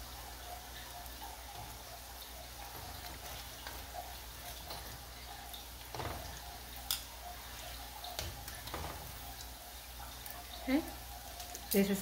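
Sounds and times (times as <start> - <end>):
dough deep-frying in oil: 0.0 - 12.0
oil bubbling: 0.0 - 12.0.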